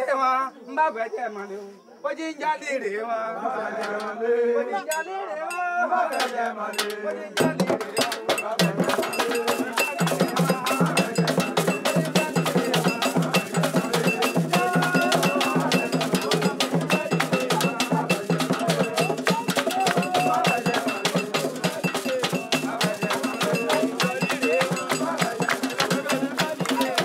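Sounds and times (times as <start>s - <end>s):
metal bell struck rapidly: 4.9s - 27.0s.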